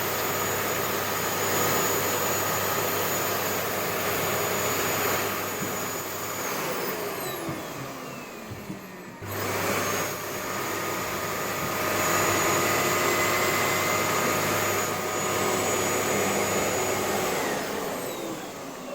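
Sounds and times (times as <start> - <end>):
vacuum cleaner motor whining: 0.0 - 18.9.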